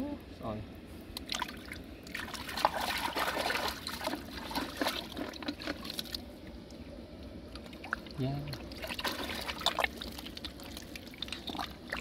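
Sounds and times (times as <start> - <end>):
water trickling and dripping: 1.2 - 12.0.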